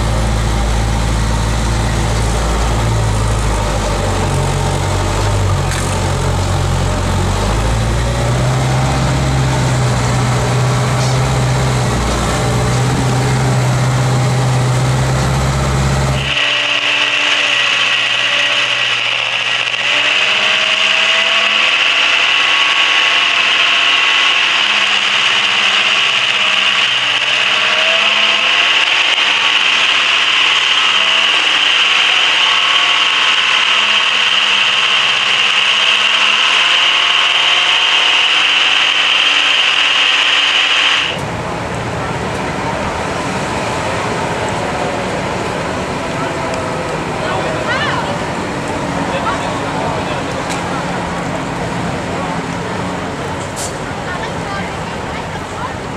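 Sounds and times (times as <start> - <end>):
diesel engine running: 0.0 - 55.9
high whine: 0.0 - 55.9.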